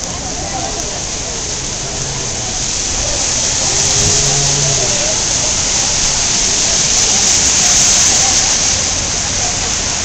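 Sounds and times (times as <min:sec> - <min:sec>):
faint voices: 0:00.0 - 0:10.0
heavy rain falling: 0:00.0 - 0:10.0.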